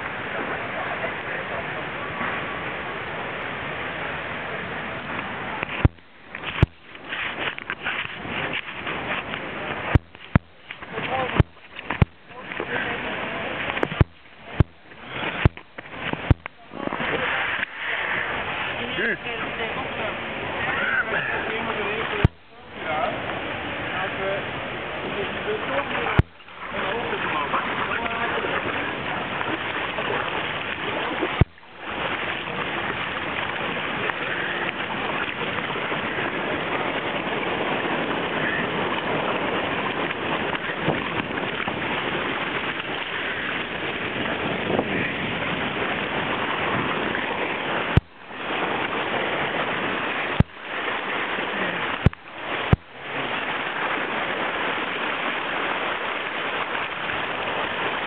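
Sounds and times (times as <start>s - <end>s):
water splashing against kayak: 0.0s - 58.0s
whitewater rushing: 0.0s - 58.0s.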